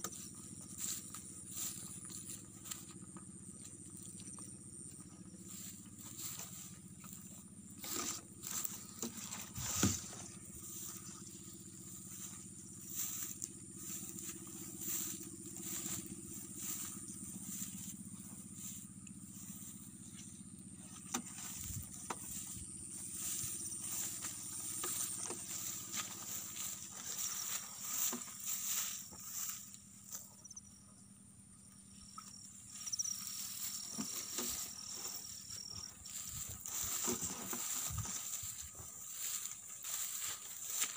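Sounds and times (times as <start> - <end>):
footsteps crunching through dry stubble: 0.0 - 30.6, 32.0 - 40.9
high-pitched insect call: 0.0 - 40.9
tractor engine running: 0.0 - 40.9.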